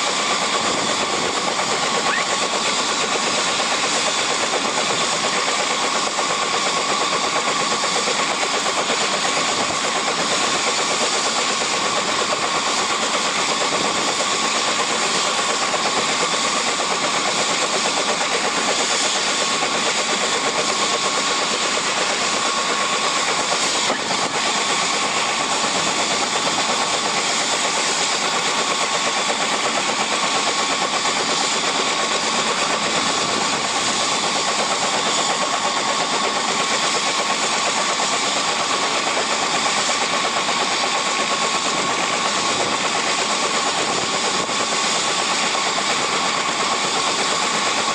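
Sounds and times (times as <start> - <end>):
helicopter turbine whine: 0.0 - 47.9.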